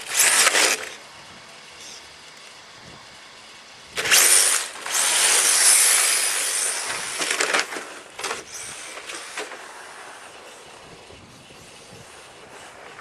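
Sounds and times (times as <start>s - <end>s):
toy car motor whir: 0.0s - 13.0s.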